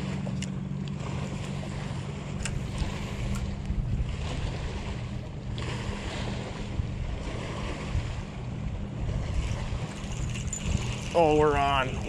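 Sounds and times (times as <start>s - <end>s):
low hum: 0.0s - 12.0s
water lapping against boat: 0.0s - 12.0s
wind buffeting microphone: 1.1s - 12.0s.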